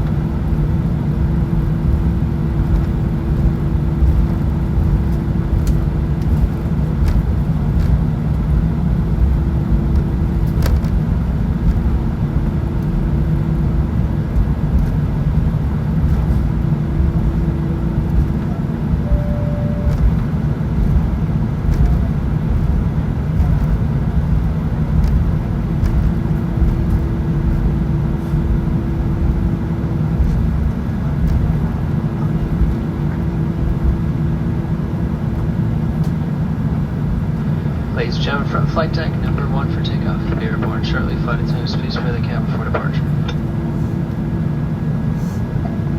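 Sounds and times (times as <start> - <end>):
hum: 0.0 - 34.0, 37.4 - 44.3
aircraft engines droning: 0.0 - 45.9.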